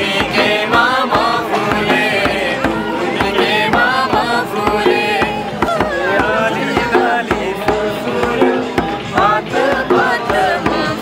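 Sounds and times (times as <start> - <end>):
hand drum beat: 0.0 - 11.0
men and women singing: 0.0 - 11.0.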